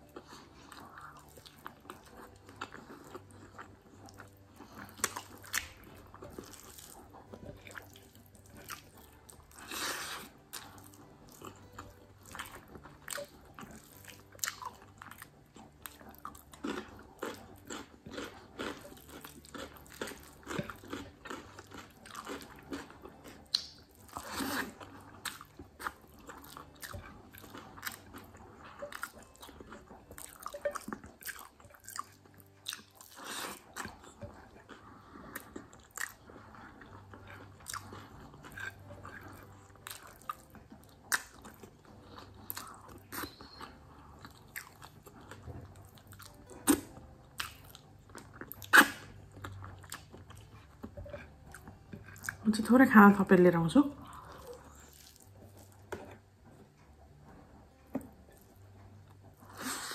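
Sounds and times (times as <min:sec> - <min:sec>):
wet chewing and lip smacks: 0:00.0 - 0:52.5.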